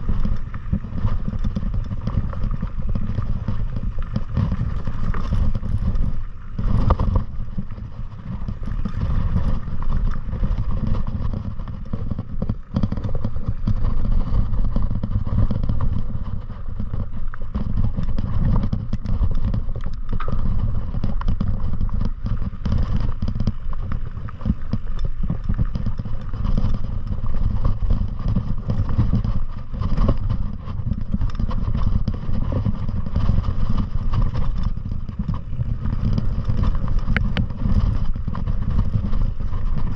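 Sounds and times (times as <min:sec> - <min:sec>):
low rumble: 0:00.0 - 0:39.9
rattling and clatter: 0:00.0 - 0:39.9.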